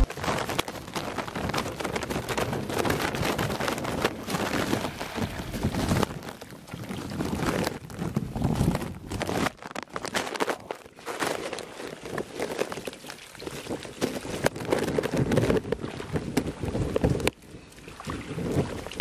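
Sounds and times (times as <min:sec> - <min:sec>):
wind buffeting microphone: 0:00.0 - 0:09.6, 0:11.8 - 0:19.0
rain patter and splashes: 0:00.0 - 0:19.0.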